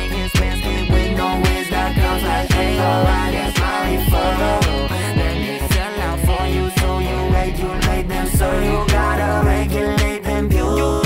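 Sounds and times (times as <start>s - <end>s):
deep bass kicks sliding down: 0.0s - 11.0s
synth chords: 0.0s - 11.0s.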